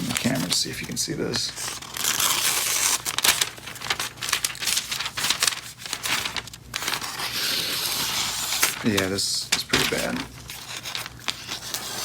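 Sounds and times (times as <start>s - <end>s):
knife tearing paper: 1.6s - 12.0s.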